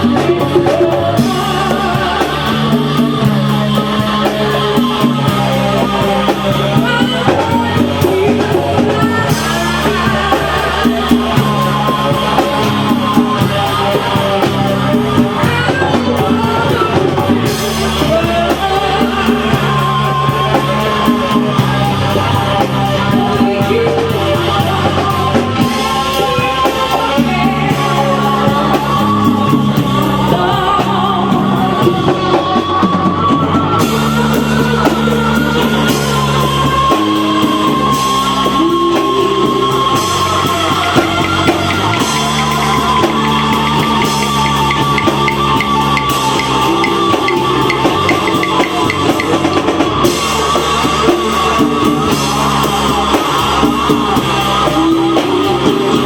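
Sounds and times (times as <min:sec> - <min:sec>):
bass line: 0:00.0 - 0:56.0
drums: 0:00.0 - 0:56.0
person singing: 0:00.0 - 0:56.0.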